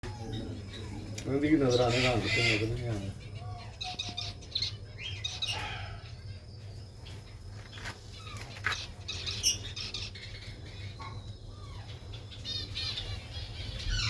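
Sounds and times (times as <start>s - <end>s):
cage birds chirping: 0.0s - 14.0s
steady low hum: 0.0s - 14.0s.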